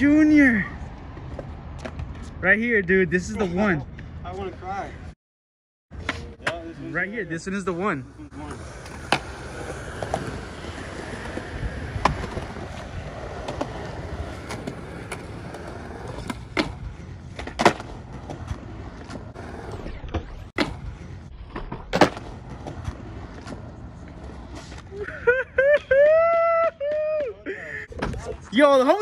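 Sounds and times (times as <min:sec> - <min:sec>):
skateboard wheels rolling on concrete: 0:00.0 - 0:05.1, 0:05.9 - 0:29.0.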